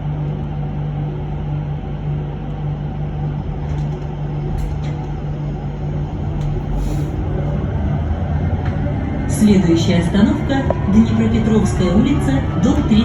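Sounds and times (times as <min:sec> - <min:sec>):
bus cabin hum: 0:00.0 - 0:13.0.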